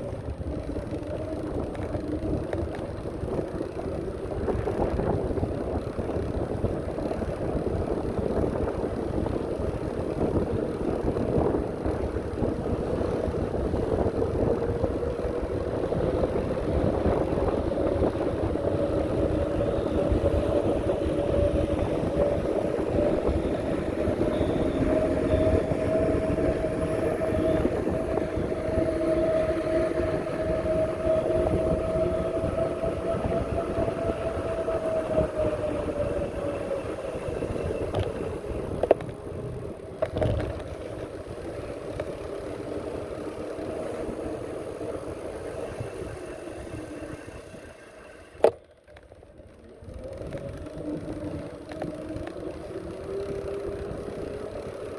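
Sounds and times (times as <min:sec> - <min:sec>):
wind buffeting on microphone: 0:00.0 - 0:47.8
steady whine: 0:08.6 - 0:54.9.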